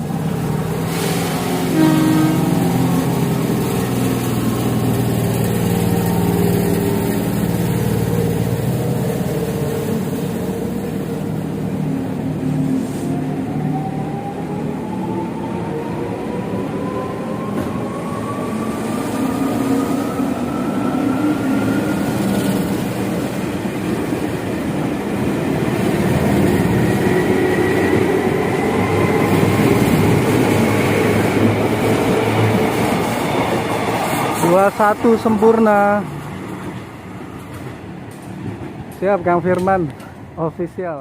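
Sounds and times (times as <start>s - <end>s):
train wheels rolling on rails: 0.0s - 40.4s.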